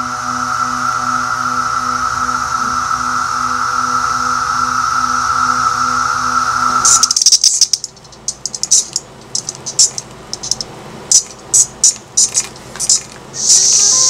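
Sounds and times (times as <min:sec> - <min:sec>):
buzzing insect chirps: 0:00.0 - 0:14.0
electronic drone: 0:00.0 - 0:14.0.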